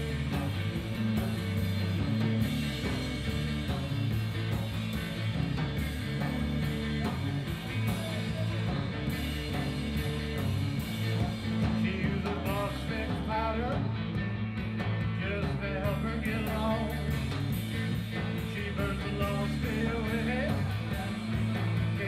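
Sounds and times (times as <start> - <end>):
drums: 0.0 - 22.0
electric guitar: 0.0 - 22.0
live rock band playing: 0.0 - 22.0.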